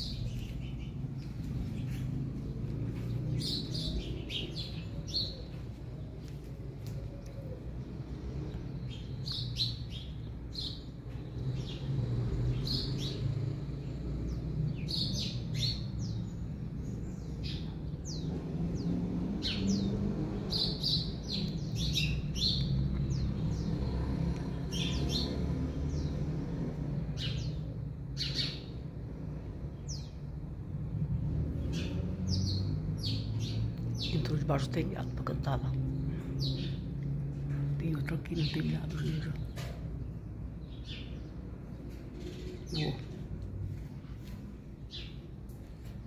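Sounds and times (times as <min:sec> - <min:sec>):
small songbirds chirping: 0:00.0 - 0:46.0.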